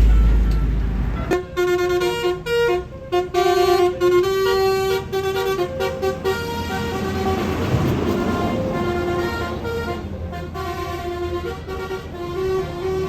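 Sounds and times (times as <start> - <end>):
bus air horn melody: 0.0 - 13.0.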